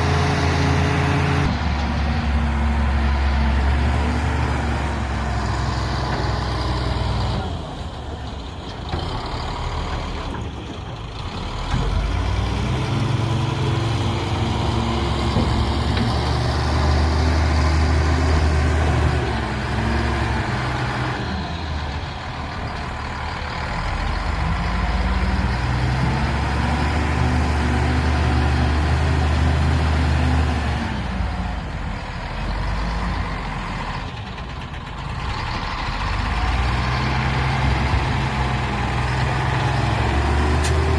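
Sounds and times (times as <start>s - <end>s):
heavy diesel engine working: 0.0s - 40.9s.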